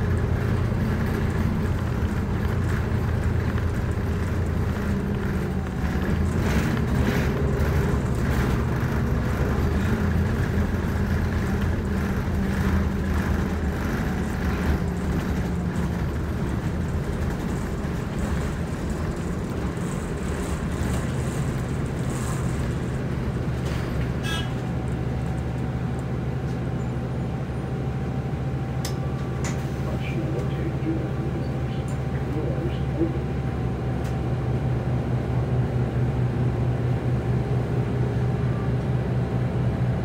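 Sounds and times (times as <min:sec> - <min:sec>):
bus engine running: 0:00.0 - 0:40.0
road noise: 0:00.0 - 0:40.0.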